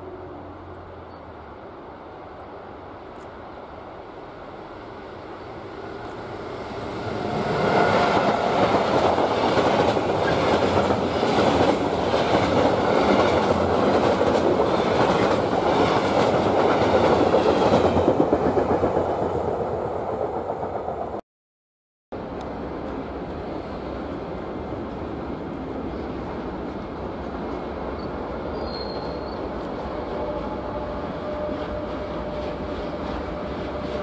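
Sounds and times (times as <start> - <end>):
freight train rumbling past: 0.0 - 21.2, 22.2 - 34.0.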